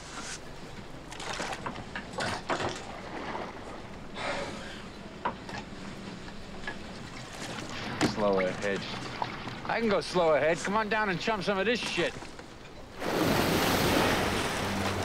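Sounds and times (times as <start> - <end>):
boat engine hum: 0.0 - 15.0
water: 0.0 - 15.0.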